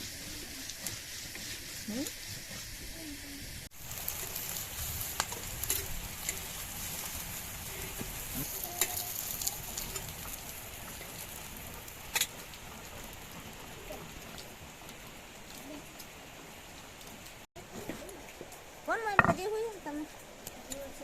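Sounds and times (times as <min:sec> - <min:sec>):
curry sizzling in a pot: 0:00.0 - 0:21.0.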